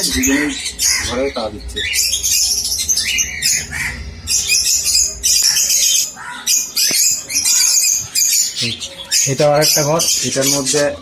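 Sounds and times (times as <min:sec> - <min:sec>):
parrots squawking: 0:00.0 - 0:11.0.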